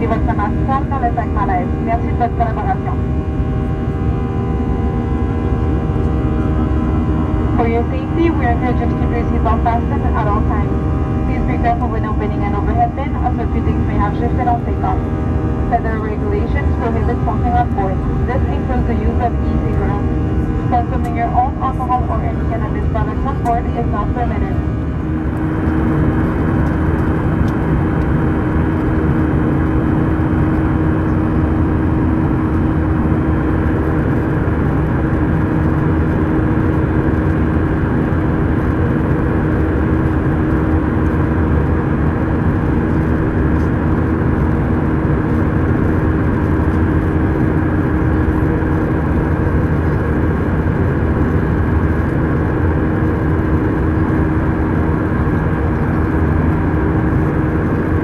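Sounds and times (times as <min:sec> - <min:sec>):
jet engine and airflow roar: 0:00.0 - 0:58.0
steady hum: 0:00.0 - 0:58.0.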